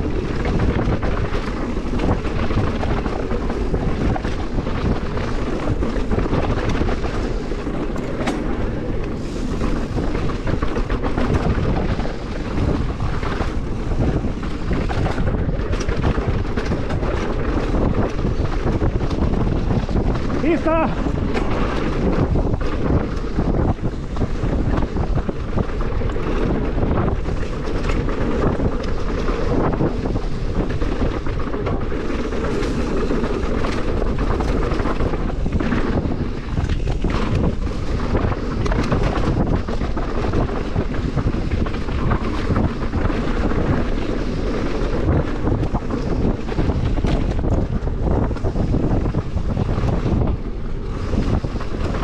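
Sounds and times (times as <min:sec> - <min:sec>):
bike knocks and rattles: 0:00.0 - 0:52.0
tyres rumbling over dirt: 0:00.0 - 0:52.0
wind buffeting microphone: 0:00.0 - 0:52.0.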